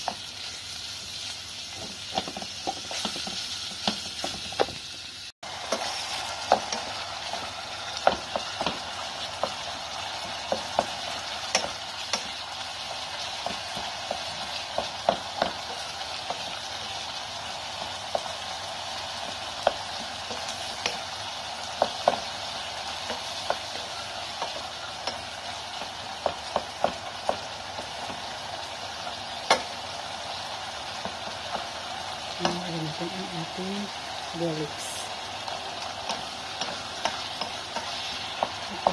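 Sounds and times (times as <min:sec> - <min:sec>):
meat sizzling in a saucepan: 0:00.0 - 0:38.9.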